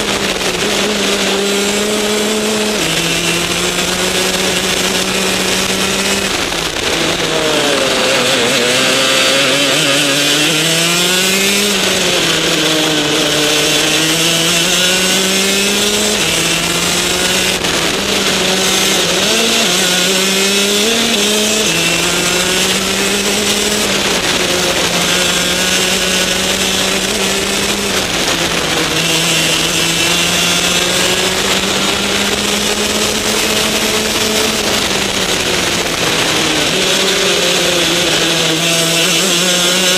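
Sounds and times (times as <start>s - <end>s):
kart two-stroke engine racing: 0.0s - 39.9s.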